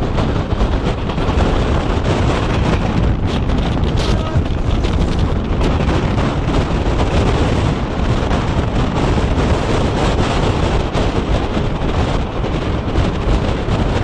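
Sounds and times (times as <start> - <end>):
train running noise: 0.0 - 14.0
wind buffeting microphone: 0.0 - 14.0.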